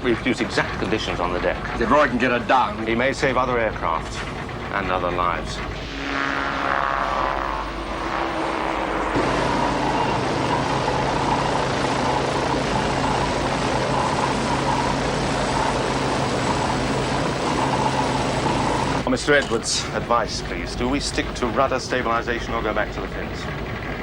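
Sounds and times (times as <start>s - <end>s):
helicopter turbine and rotor noise: 0.0s - 24.0s.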